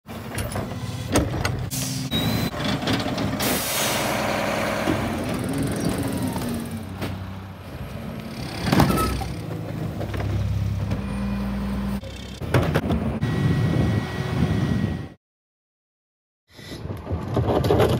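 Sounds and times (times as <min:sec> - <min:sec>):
diesel engines revving: 0:00.1 - 0:15.2.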